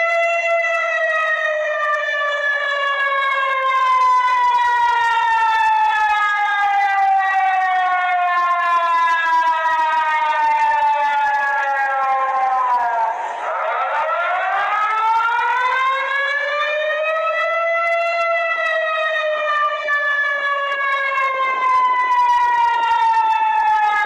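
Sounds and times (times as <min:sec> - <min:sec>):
civil defense siren wailing: 0:00.0 - 0:24.0.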